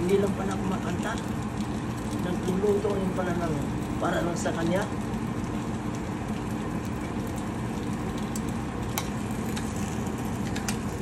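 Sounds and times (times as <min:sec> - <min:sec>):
exhaust fan humming: 0:00.0 - 0:11.0
meat sizzling in a frying pan: 0:00.0 - 0:11.0.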